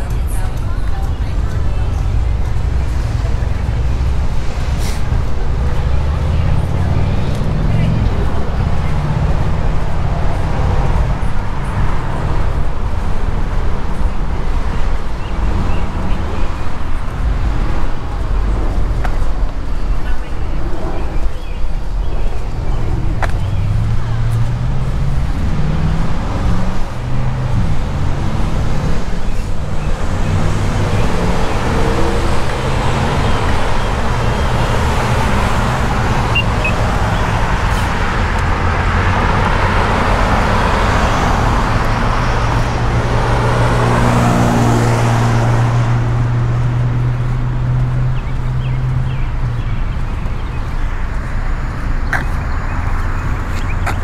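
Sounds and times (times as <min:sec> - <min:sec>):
car passing: 0:00.0 - 0:54.0
vehicle engines running: 0:00.0 - 0:54.0.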